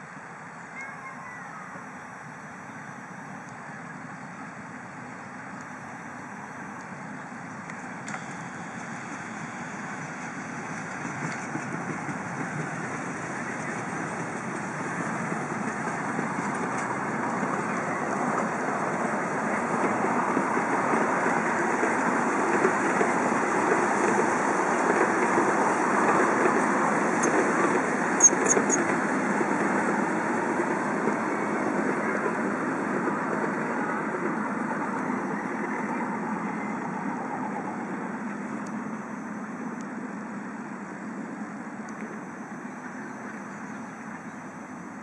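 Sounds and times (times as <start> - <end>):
miniature train rolling along track: 0.0 - 45.0.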